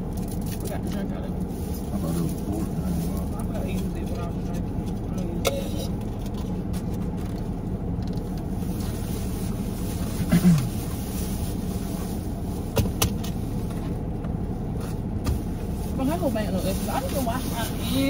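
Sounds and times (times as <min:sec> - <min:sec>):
car idling inside cabin: 0:00.0 - 0:18.0.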